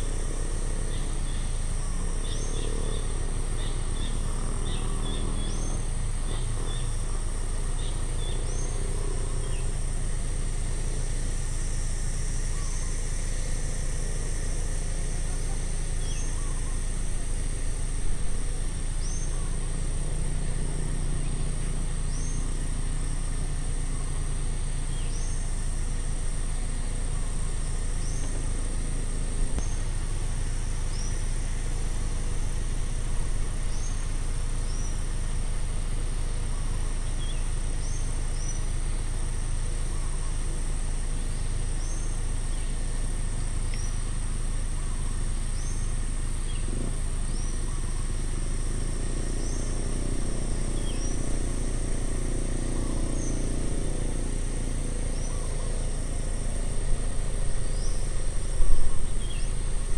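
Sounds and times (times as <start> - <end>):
faint low hum: 0.0 - 59.9
high-pitched insect drone: 0.0 - 59.9.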